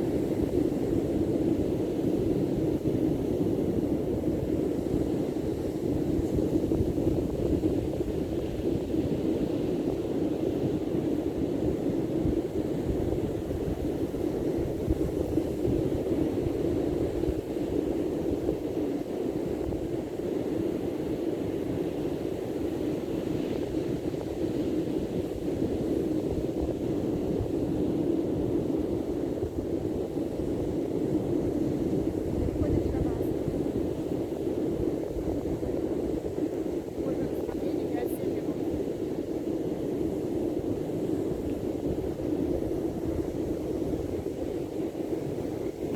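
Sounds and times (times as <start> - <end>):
wind: 0.0 - 45.9.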